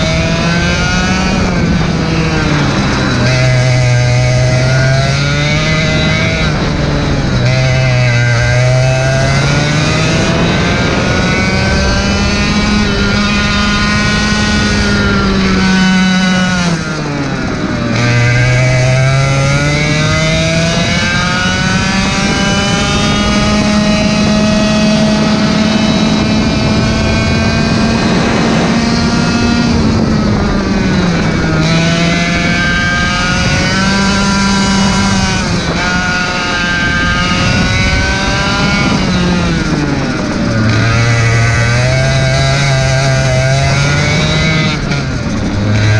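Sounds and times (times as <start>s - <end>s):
kart engine racing: 0.0s - 45.9s
wind rushing over microphone: 0.0s - 45.9s.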